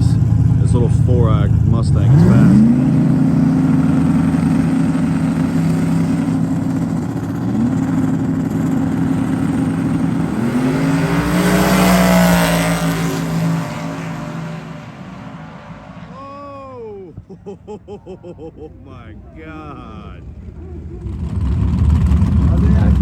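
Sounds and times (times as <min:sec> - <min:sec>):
race car engines at full throttle: 0:00.0 - 0:23.0.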